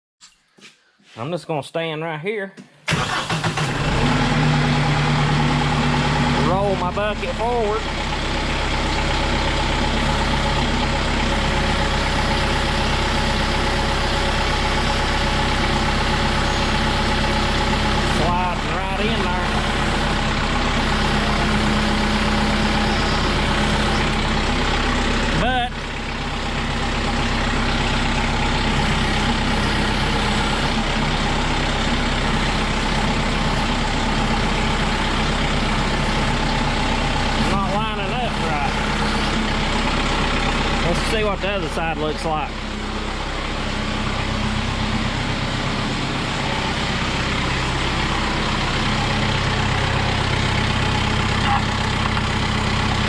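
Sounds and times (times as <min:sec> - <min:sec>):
tractor diesel engine idling: 0:02.9 - 0:53.0.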